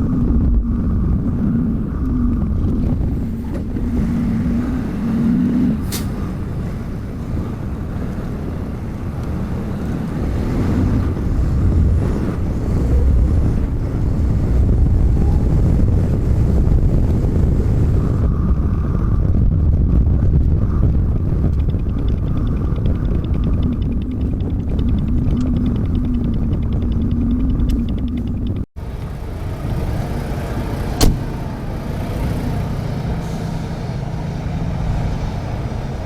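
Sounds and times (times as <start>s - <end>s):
road noise inside cab: 0.0s - 36.0s
truck engine rumbling: 0.0s - 36.0s.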